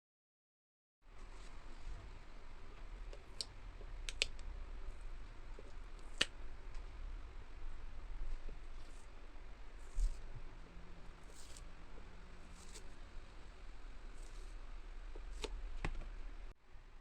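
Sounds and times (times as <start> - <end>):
low steady hum: 1.1 - 17.0.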